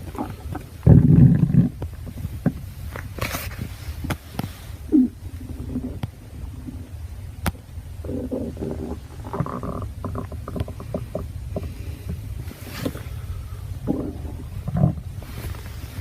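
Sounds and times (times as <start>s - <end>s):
stomach growling: 0.0s - 3.3s, 4.9s - 16.0s.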